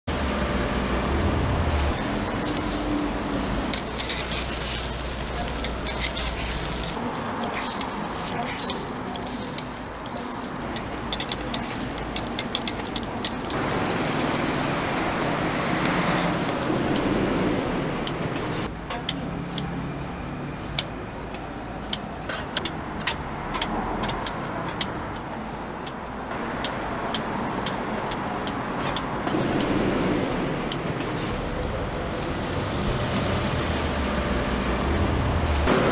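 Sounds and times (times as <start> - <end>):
road traffic passing: 0.0 - 35.9.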